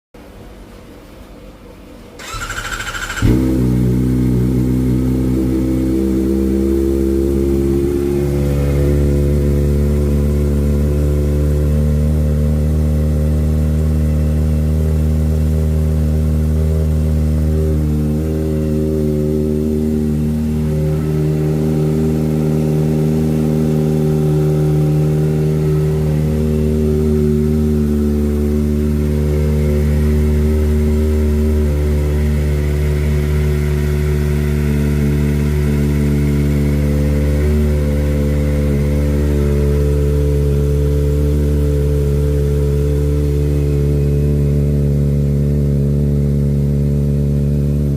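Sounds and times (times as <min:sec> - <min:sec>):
motorcycle engine idling: 0:02.2 - 0:47.9.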